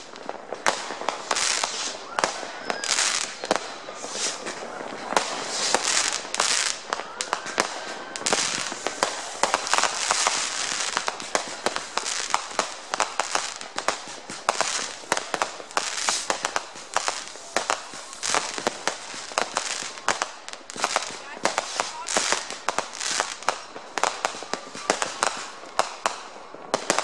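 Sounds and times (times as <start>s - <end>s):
crackling hiss: 0.0s - 27.0s
fireworks bangs and pops: 0.0s - 27.0s.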